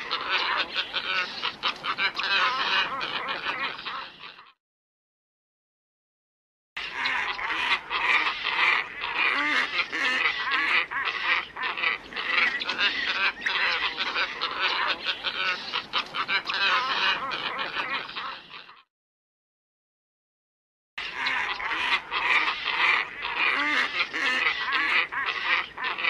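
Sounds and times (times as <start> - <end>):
flock of ibis calling: 0.0 - 4.6, 6.8 - 18.9, 21.0 - 26.0.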